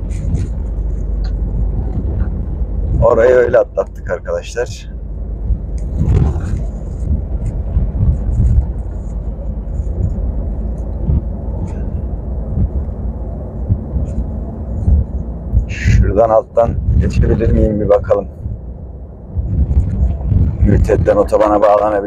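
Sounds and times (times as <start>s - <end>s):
truck engine and road rumble: 0.0s - 22.0s.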